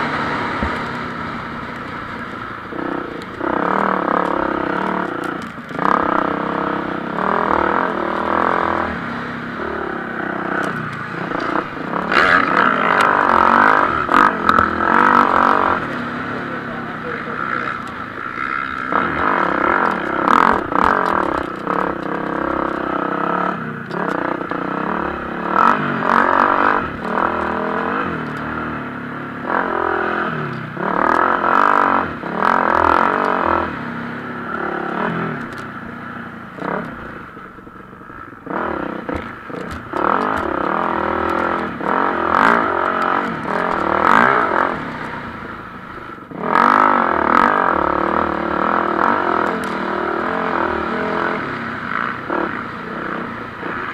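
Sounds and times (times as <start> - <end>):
motocross bikes revving: 0.0 - 53.9.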